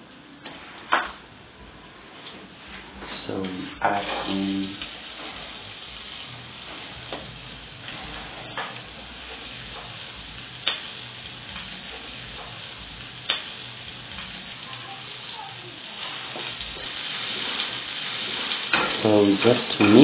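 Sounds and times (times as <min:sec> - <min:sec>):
food sizzling in oil: 0:02.8 - 0:20.0.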